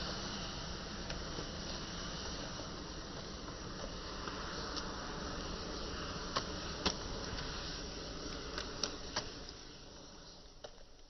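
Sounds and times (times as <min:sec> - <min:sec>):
fire crackles and pops: 0:00.0 - 0:11.0
rush of flame: 0:00.0 - 0:11.0.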